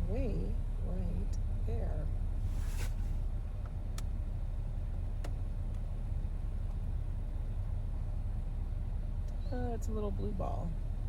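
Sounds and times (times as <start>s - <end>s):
car driving heard from inside: 0.0s - 11.0s.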